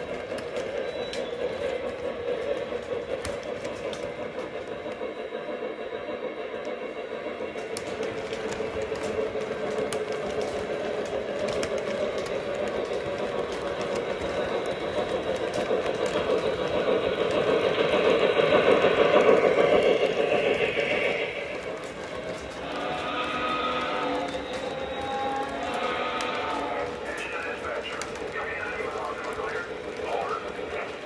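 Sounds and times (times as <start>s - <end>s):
model train wheels rumbling: 0.0s - 31.0s.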